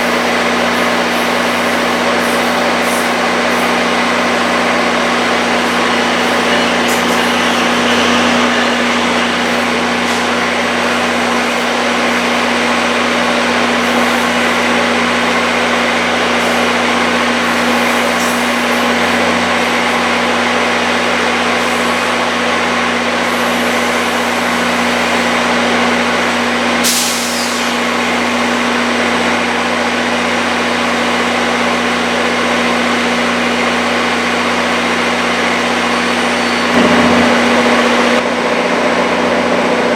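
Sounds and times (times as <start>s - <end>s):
train engine hum and drone: 0.0s - 39.9s.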